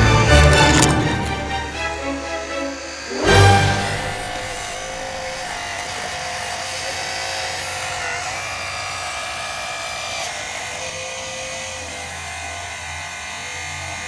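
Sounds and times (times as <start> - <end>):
small electric motors whining: 0.0 - 14.0.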